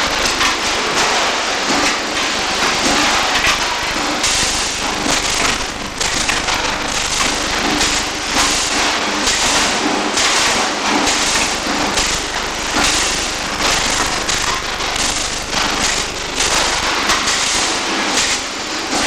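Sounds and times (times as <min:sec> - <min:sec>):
arc welding crackle and sizzle: 0:00.0 - 0:19.0.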